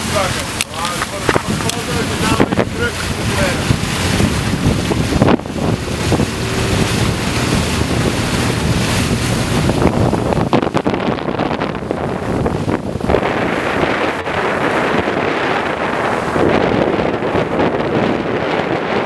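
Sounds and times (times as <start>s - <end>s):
choppy water splashing: 0.0s - 19.0s
wind blowing across microphone: 0.0s - 19.0s.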